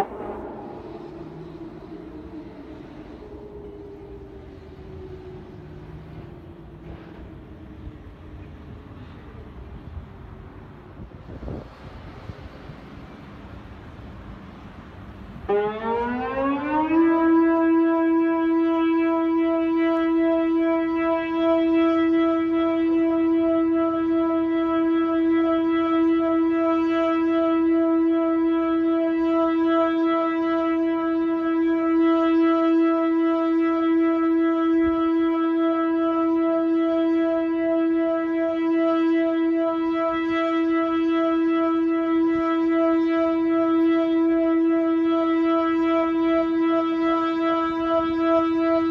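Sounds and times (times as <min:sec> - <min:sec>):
loud siren-like tone: 0:00.0 - 0:10.1, 0:15.2 - 0:48.9.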